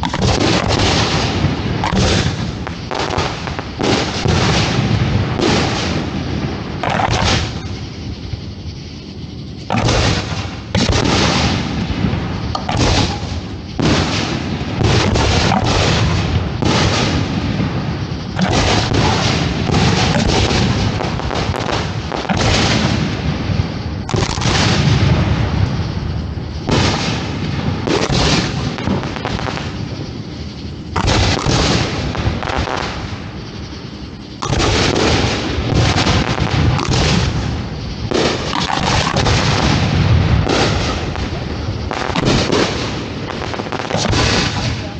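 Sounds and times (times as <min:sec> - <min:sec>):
fireworks booming: 0:00.0 - 0:44.9.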